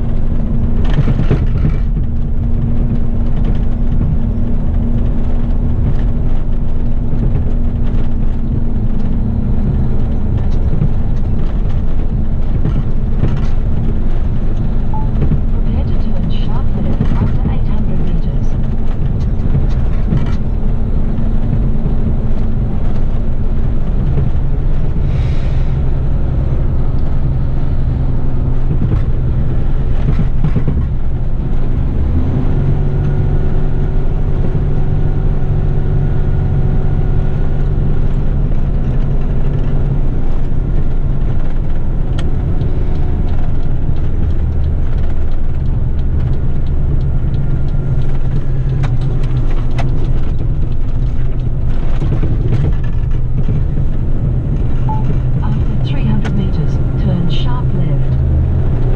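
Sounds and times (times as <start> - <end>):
road noise: 0.0 - 58.9
truck diesel engine: 0.0 - 58.9.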